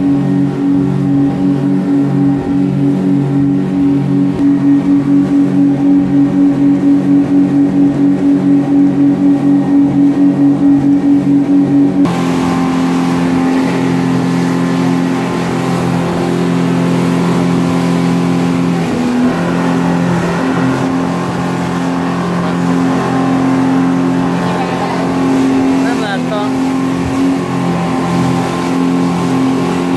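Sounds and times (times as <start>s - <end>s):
speedboat outboard motors running: 0.0s - 29.9s.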